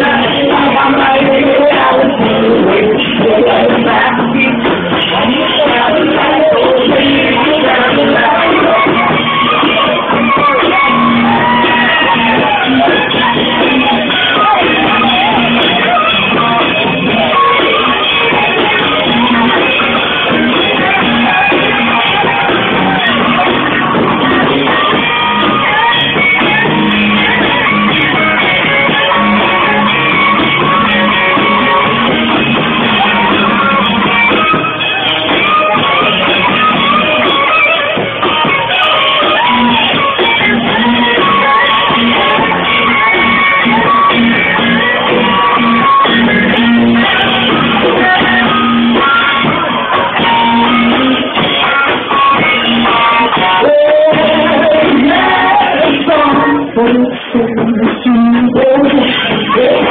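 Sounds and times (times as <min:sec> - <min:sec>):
rock music with singer and guitar: 0:00.0 - 0:59.9.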